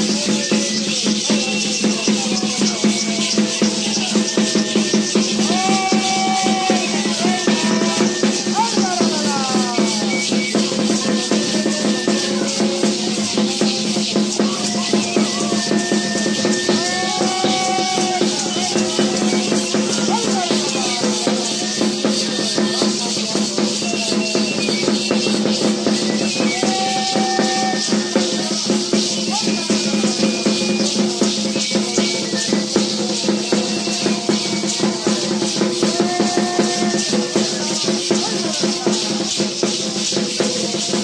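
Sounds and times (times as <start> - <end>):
drum beating: 0.0 - 41.0
cane flute notes: 0.2 - 38.6
gourd rattles shaken fast: 0.8 - 26.8, 27.7 - 41.0.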